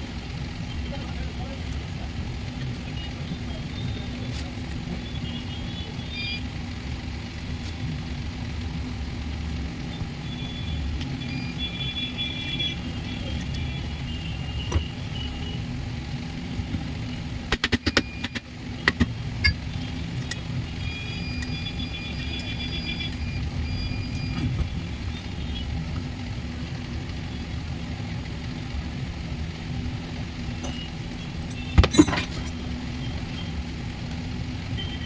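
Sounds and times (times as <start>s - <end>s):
engine rumbling: 0.0s - 35.0s.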